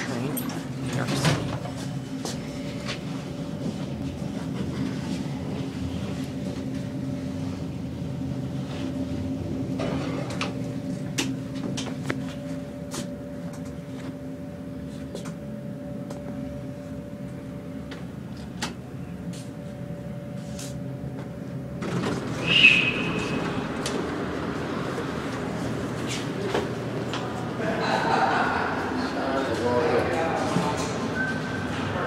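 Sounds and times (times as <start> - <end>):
elevator hum with steady tones: 0.0 - 32.0.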